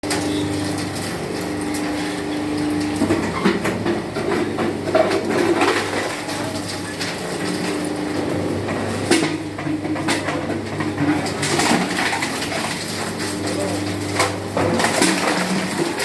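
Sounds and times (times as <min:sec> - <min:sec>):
shredder motor hum: 0:00.0 - 0:16.0.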